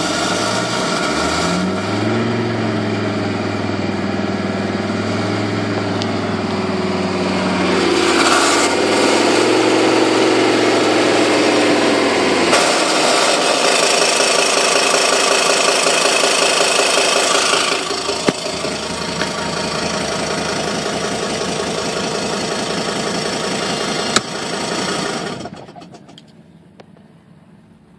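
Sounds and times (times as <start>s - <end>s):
engine revving: 0.0s - 26.2s
diesel engine idling with rattle: 0.0s - 27.9s.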